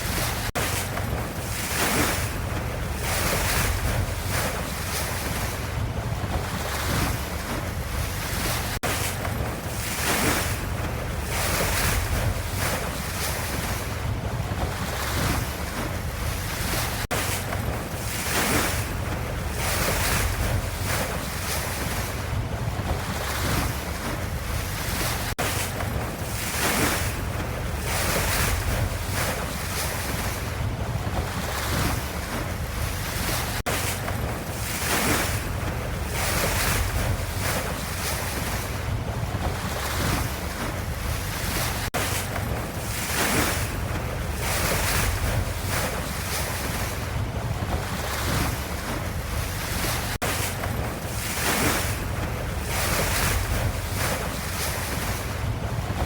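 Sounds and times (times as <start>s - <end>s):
ocean waves surf: 0.0s - 56.0s.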